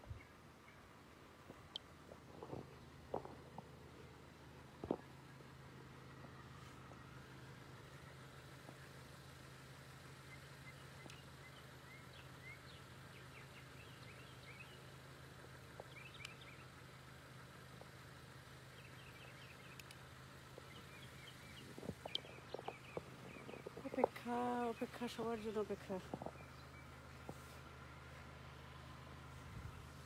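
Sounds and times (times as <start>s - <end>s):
birds chirping: 0.0s - 30.0s
low steady hum: 0.0s - 30.0s.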